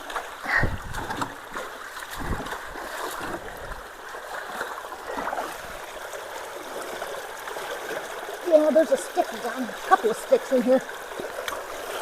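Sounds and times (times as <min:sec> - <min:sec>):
water rushing into culvert: 0:00.0 - 0:12.0.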